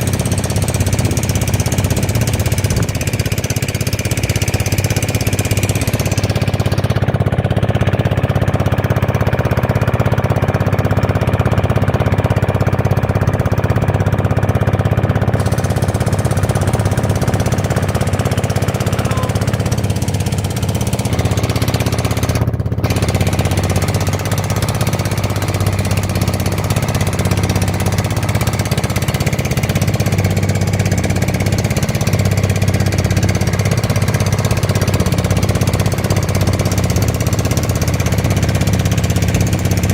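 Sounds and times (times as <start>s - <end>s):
boat motor droning: 0.0s - 39.9s.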